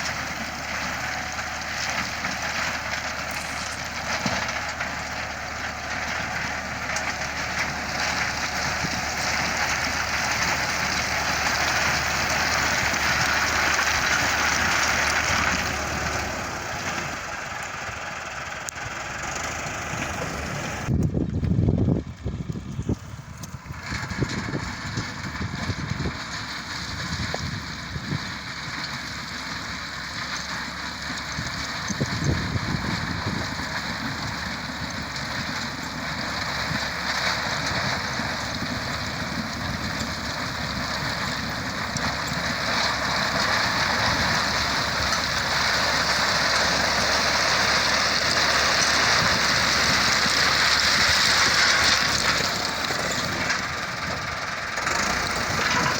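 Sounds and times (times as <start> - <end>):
heavy machinery engine rumble: 0.0 - 55.9.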